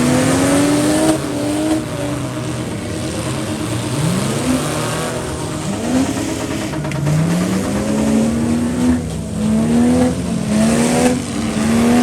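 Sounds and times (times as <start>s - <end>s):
vehicle engines revving: 0.0s - 12.0s.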